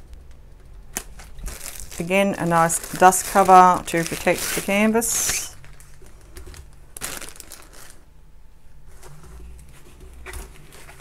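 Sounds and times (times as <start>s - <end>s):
plastic and paper wrapping crinkling: 0.9s - 8.1s, 8.9s - 11.0s.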